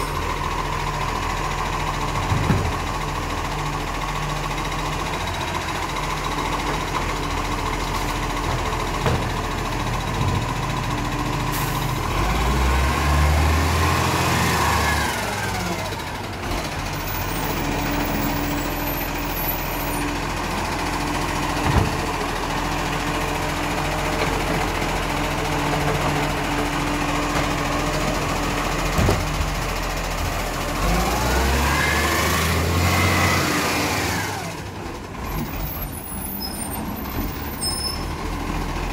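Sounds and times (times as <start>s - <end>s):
garbage truck diesel engine revving: 0.0s - 38.9s.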